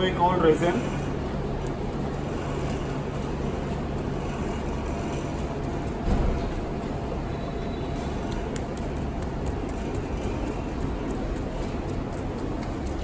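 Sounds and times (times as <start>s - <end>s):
machine hum and rumble: 0.0s - 13.0s.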